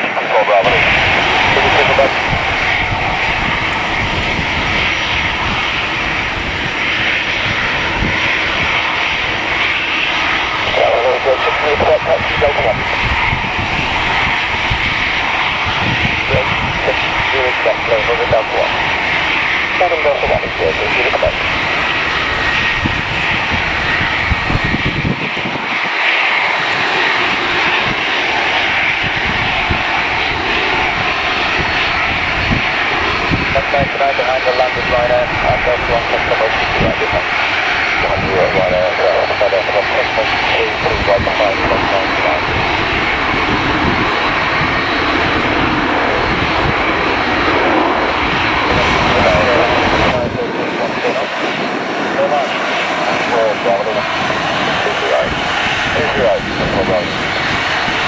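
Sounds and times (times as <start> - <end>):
airliner engines running: 0.0 - 58.0
wind rumble on microphone: 0.6 - 58.0.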